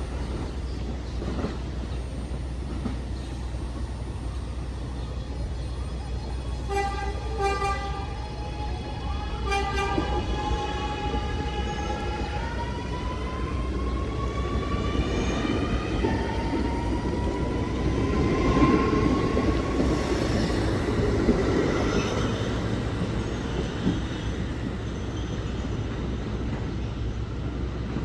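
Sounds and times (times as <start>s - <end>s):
wheels rumbling on rail: 0.0s - 28.0s.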